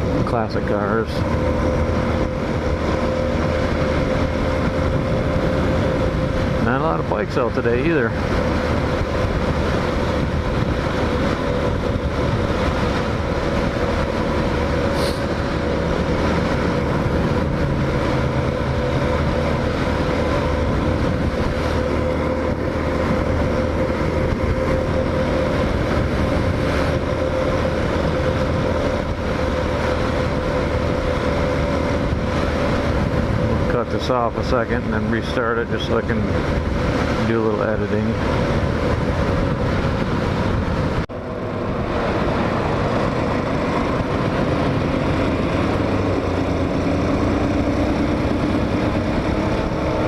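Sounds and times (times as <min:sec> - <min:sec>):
motorcycle engine cruising: 0:00.0 - 0:50.0
wind rushing past microphone: 0:00.0 - 0:50.0.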